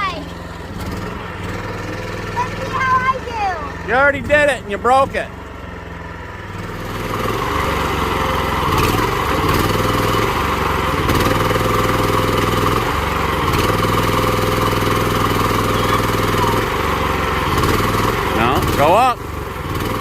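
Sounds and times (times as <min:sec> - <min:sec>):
small excavator engine running: 0:00.0 - 0:20.0.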